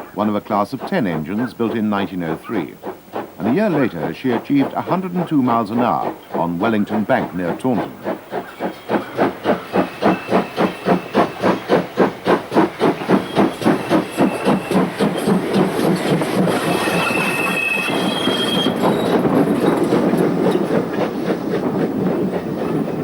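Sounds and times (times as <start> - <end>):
steam locomotive exhaust beats: 0.0 - 23.0
train rushing by: 0.0 - 23.0.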